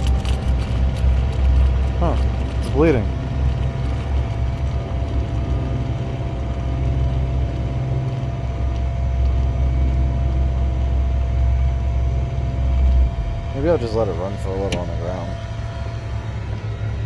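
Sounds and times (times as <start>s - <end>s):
air pump humming: 0.0s - 17.0s.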